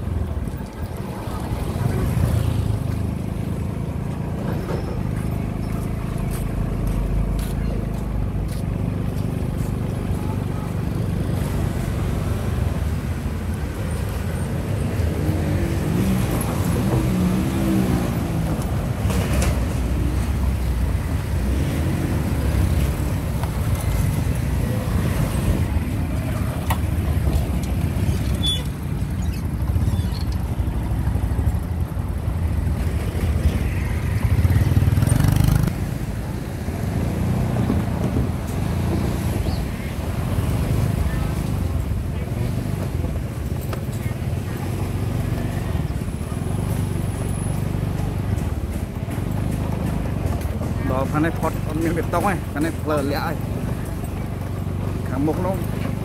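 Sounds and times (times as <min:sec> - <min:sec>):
low traffic rumble: 0:00.0 - 0:56.0
motorbikes and cars passing: 0:00.0 - 0:56.0.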